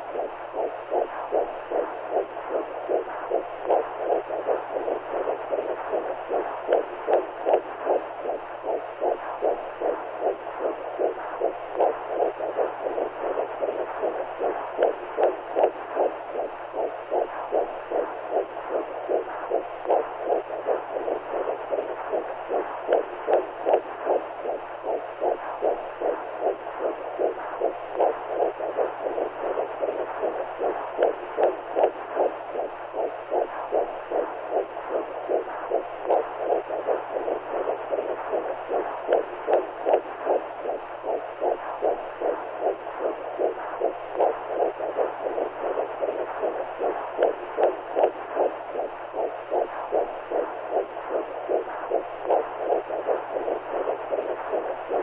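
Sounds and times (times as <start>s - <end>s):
low hum: 0.0s - 55.0s
whooshing heartbeat pulse: 0.0s - 55.0s.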